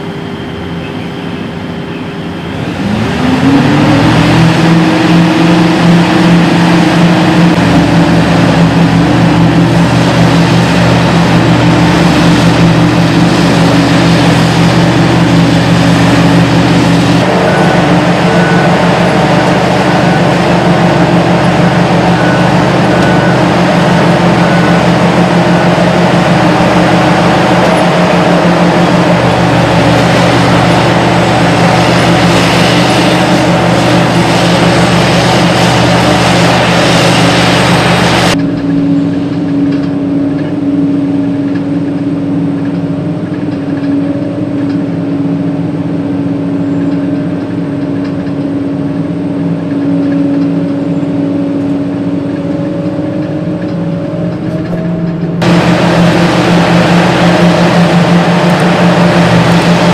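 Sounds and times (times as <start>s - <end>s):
engine drone with hum: 0.0s - 59.9s
heavy machine engine and hydraulics: 0.0s - 59.9s.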